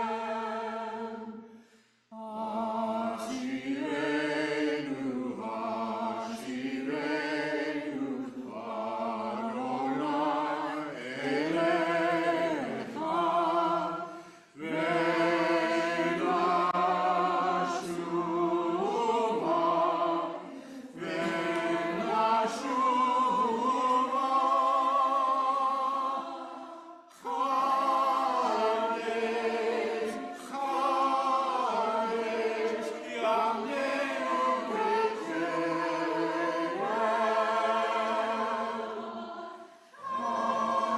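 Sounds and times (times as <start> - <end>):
person singing with vibrato: 2.1 - 40.9.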